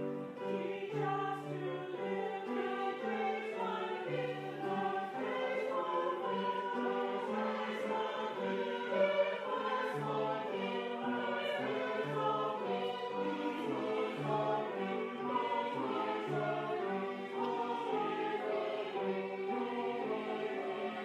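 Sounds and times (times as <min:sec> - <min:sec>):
choral church music: 0:00.0 - 0:21.0.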